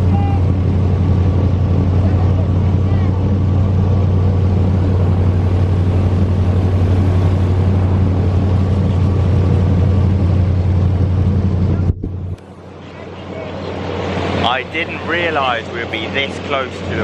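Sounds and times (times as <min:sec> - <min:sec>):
airboat engine and propeller drone: 0:00.0 - 0:17.0.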